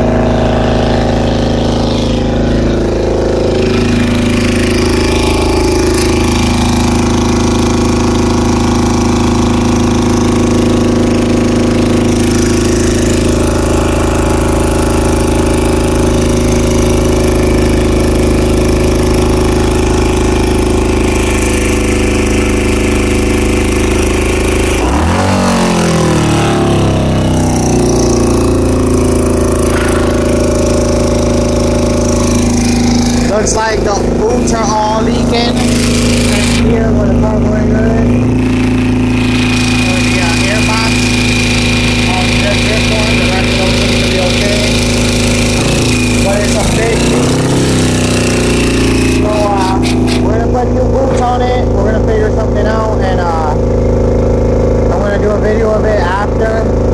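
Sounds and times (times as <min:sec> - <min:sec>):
motorcycle engine fast idle: 0:00.0 - 0:56.9.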